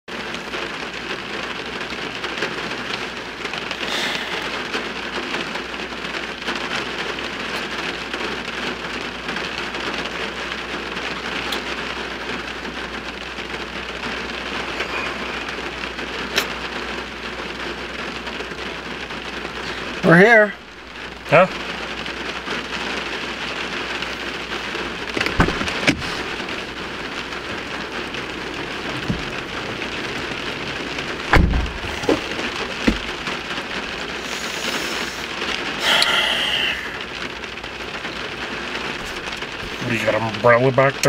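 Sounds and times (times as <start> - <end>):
rain on car roof: 0.1 - 41.0.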